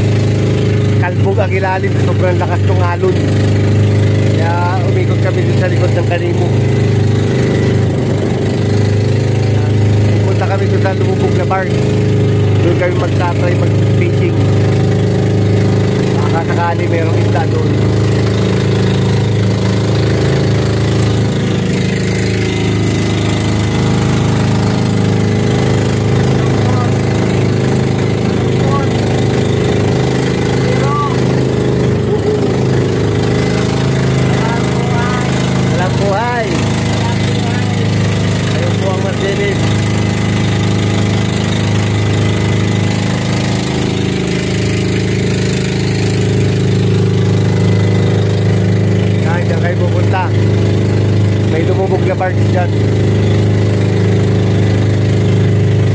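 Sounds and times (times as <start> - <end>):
boat diesel engine running: 0.0 - 55.9.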